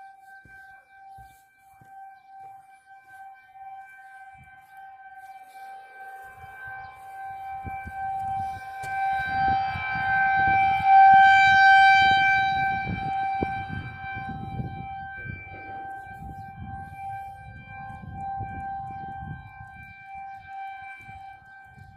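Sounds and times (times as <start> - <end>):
warning siren steady tone: 0.0 - 21.9.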